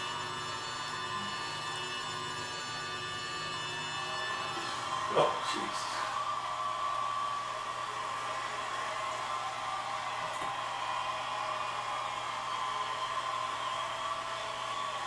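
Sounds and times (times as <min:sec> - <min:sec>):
audience cheering and applauding: 0:00.0 - 0:15.0.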